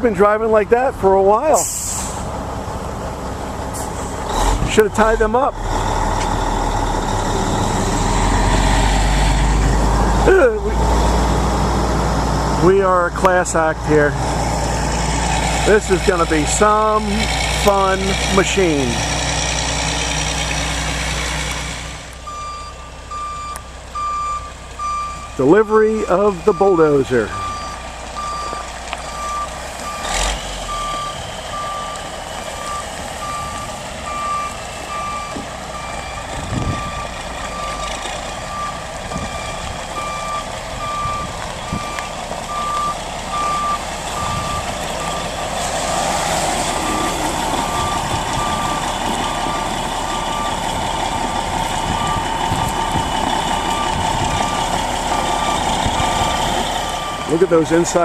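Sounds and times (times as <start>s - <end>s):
diesel engine running: 0.0s - 58.0s
truck reversing alarm beeping: 3.6s - 14.1s, 14.8s - 58.0s.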